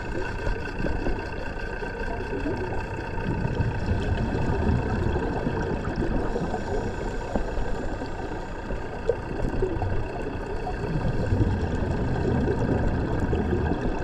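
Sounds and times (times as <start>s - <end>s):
faint steady tones hum: 0.0s - 14.0s
underwater rumble: 0.0s - 14.0s.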